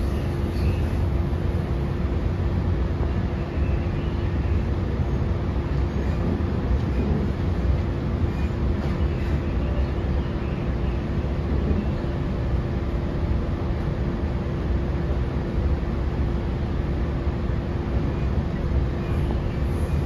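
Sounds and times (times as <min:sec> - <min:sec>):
constant hum: 0:00.0 - 0:20.0
train interior low rumble: 0:00.0 - 0:20.0.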